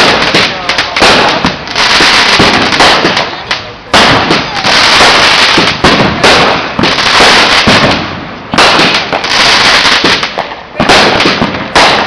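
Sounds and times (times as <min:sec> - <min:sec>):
loud firework blasts: 0:00.0 - 0:12.0
small firework pops: 0:00.0 - 0:12.0.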